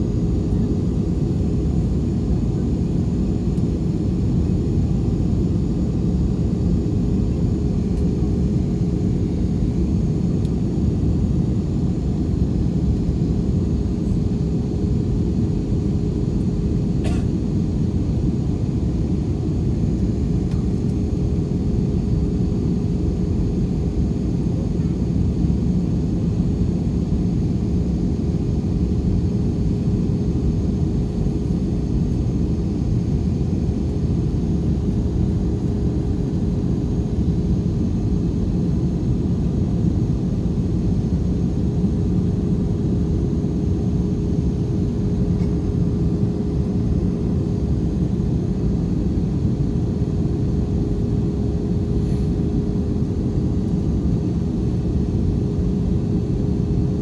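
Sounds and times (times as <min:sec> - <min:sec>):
constant hum: 0:00.0 - 0:57.0
jet cabin engine rumble: 0:00.0 - 0:57.0.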